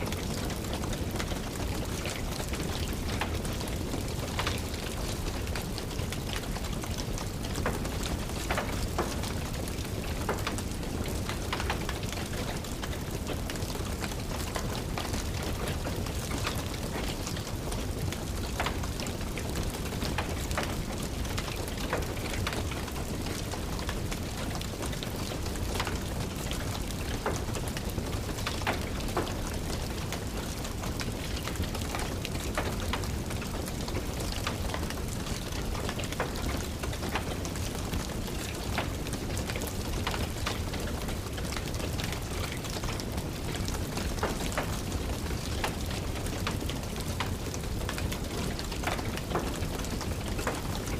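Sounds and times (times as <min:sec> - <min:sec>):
steady rain: 0:00.0 - 0:50.9
wood fire crackling: 0:00.0 - 0:50.9.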